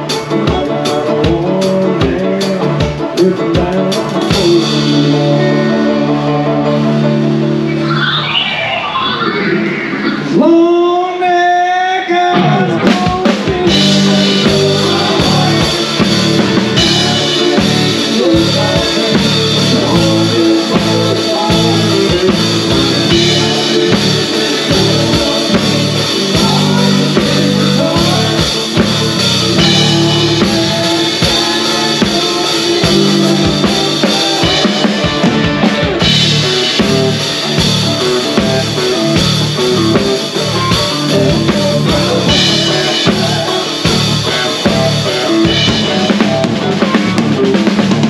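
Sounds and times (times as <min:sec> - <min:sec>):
drum kit beat: 0:00.0 - 0:11.0, 0:12.2 - 0:48.0
country band playing: 0:00.0 - 0:48.0.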